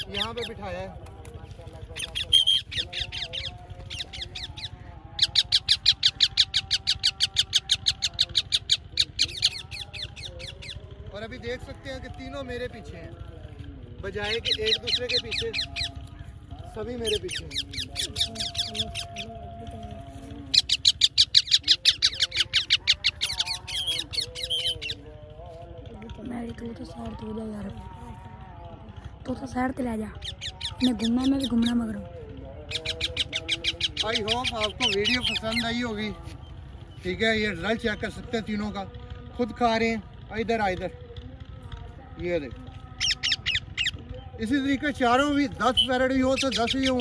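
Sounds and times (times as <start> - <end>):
parakeets screeching: 0.0 - 0.9, 1.6 - 13.0, 14.0 - 25.7, 30.0 - 40.7, 42.2 - 47.0.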